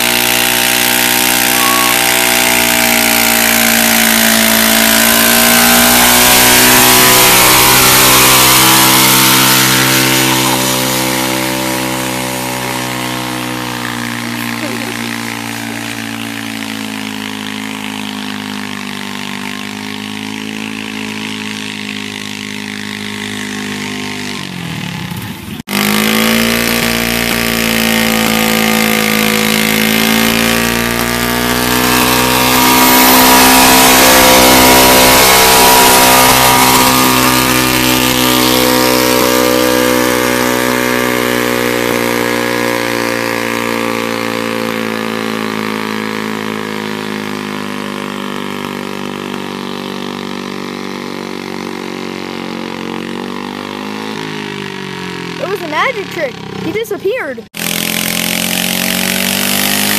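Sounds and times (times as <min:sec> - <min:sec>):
tractor engine running hard: 0:00.0 - 0:59.9.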